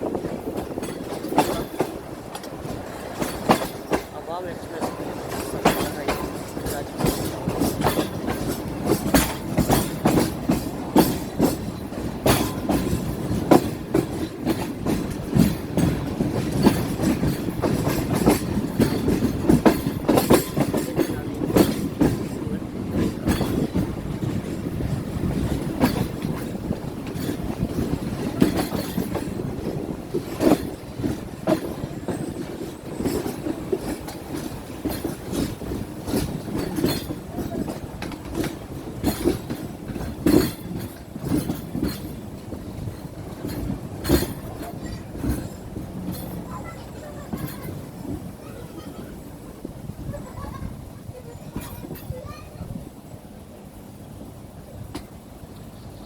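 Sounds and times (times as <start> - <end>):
train rumble: 0.0 - 56.0
wheels clacking over rail joints: 0.0 - 56.0.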